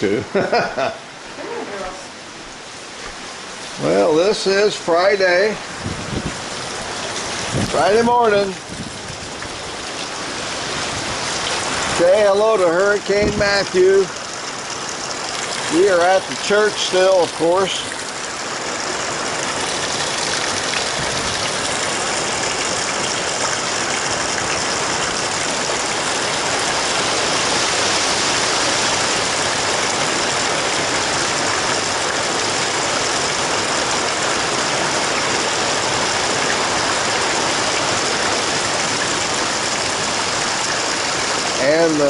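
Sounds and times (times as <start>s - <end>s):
heavy rain hiss: 0.0s - 42.0s
water pouring off roof edge: 3.5s - 42.0s.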